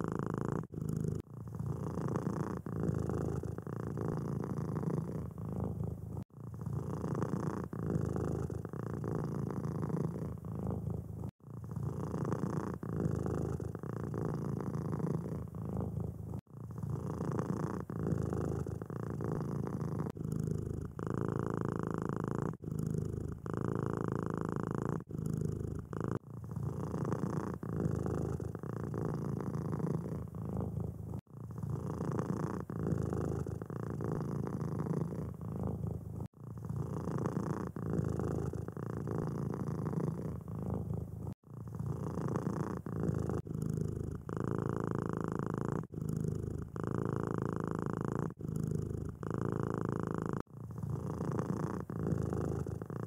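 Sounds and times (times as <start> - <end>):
cat purring: 0.0 - 53.0.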